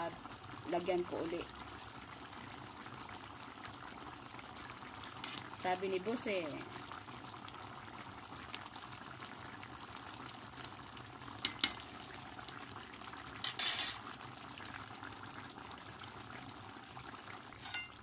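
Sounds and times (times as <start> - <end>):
stew bubbling in pot: 0.0 - 18.0.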